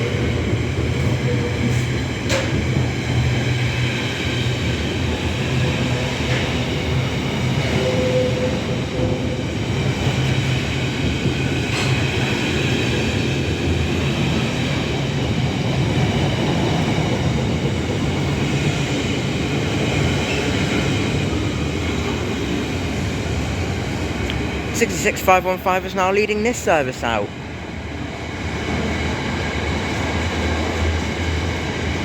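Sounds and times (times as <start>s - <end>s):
diesel locomotive engine drone: 0.0s - 32.0s.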